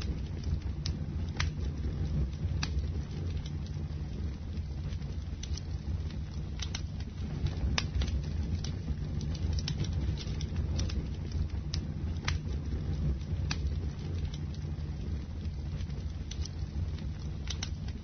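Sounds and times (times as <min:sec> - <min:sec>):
bonfire burning: 0:00.0 - 0:18.0.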